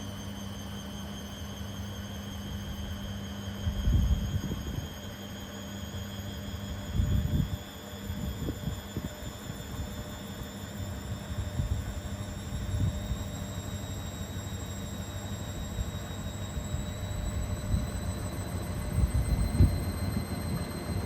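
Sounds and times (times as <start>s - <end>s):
washing machine motor whine: 0.0s - 21.0s.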